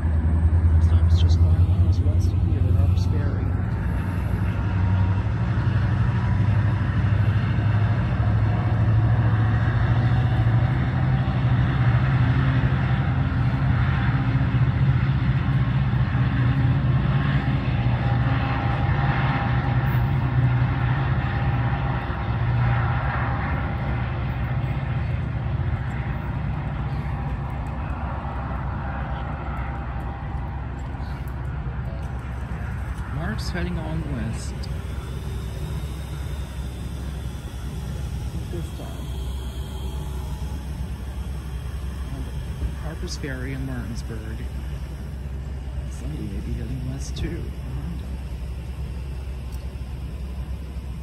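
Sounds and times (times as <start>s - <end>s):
locomotive engine drone: 0.0s - 51.0s.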